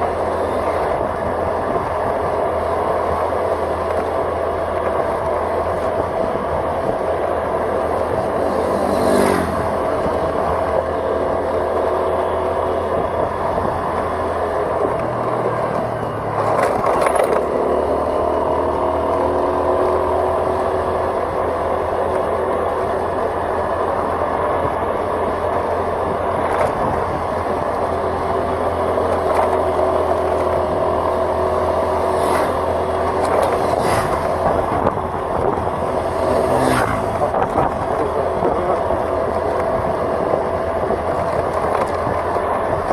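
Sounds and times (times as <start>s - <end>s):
road noise: 0.0s - 42.9s
vehicle engine running: 0.0s - 42.9s.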